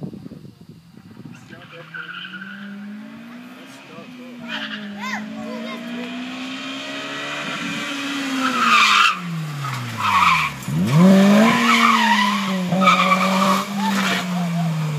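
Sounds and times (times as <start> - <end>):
car engine revving: 1.3 - 14.9
tyres squealing: 1.7 - 7.3, 7.9 - 14.8.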